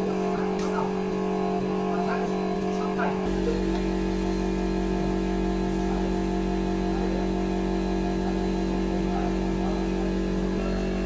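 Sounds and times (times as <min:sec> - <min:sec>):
steady multi-pitch hum: 0:00.0 - 0:11.0.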